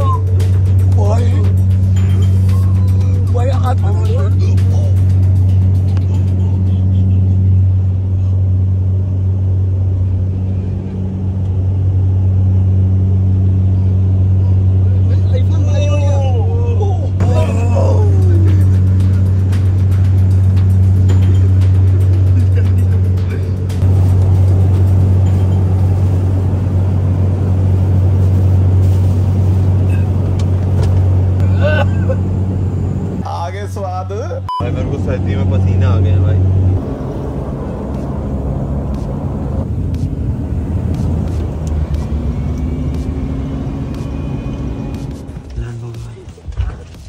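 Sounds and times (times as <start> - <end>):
propeller aircraft engine drone: 0.0 - 33.4, 34.2 - 47.0.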